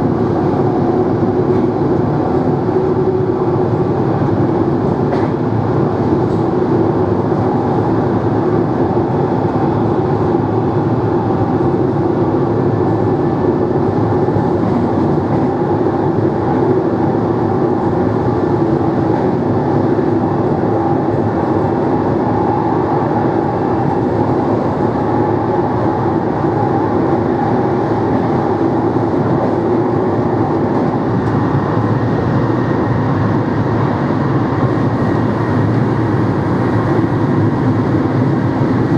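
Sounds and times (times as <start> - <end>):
rumble of train: 0.0 - 38.9
train motors humming: 0.0 - 38.9.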